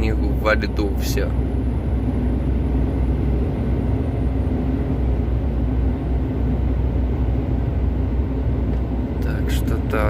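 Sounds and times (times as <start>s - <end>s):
truck diesel engine running: 0.0s - 10.0s.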